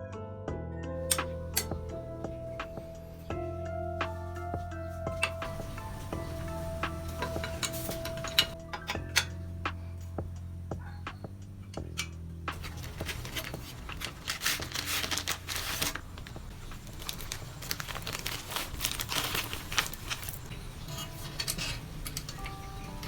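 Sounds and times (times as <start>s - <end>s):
crinkling and rustling: 1.1s - 9.4s, 10.8s - 23.0s.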